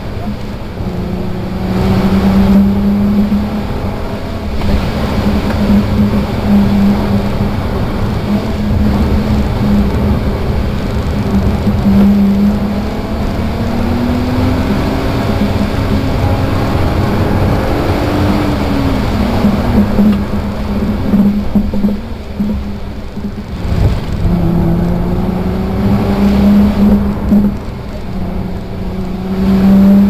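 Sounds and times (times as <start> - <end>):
car engine at speed: 0.0 - 30.0
road noise rumble: 0.0 - 30.0.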